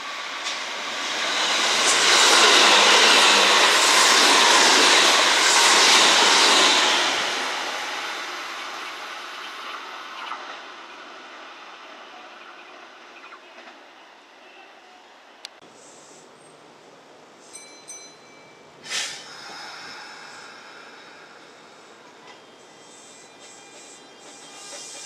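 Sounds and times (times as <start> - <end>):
electric train passing: 0.0 - 14.4, 16.8 - 25.0.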